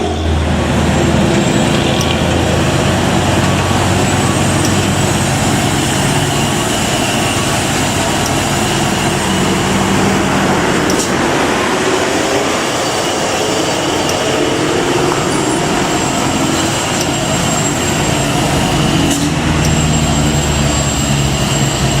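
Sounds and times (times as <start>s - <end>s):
heavy truck engine running: 0.0s - 22.0s.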